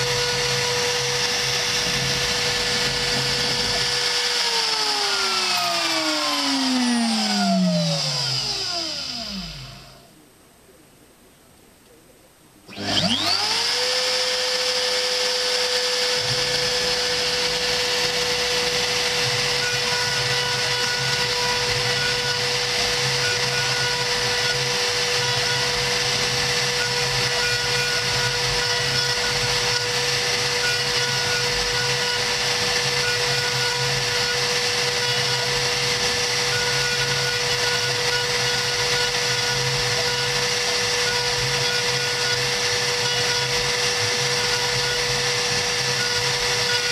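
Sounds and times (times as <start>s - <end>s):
router spindle whine: 0.0s - 10.1s, 12.7s - 46.9s.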